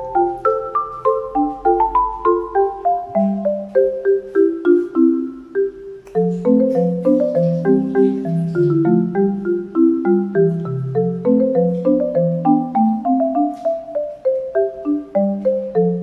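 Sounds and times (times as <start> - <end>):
upbeat mallet percussion tune: 0.0 - 16.0.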